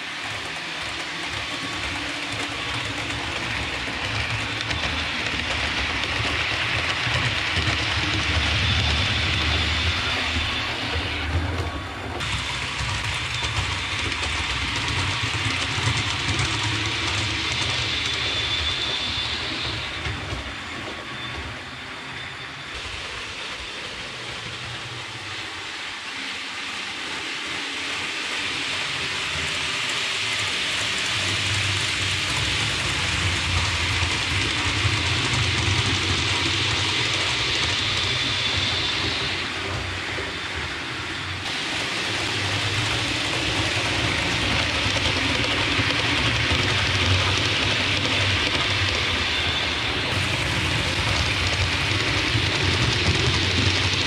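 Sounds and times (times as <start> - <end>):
model train wheels rumbling: 0.0 - 22.0, 22.6 - 54.0.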